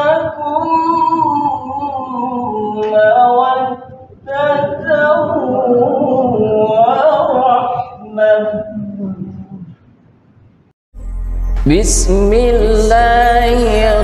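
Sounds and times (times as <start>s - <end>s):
man reciting melodically: 0.0s - 9.7s, 11.6s - 14.0s.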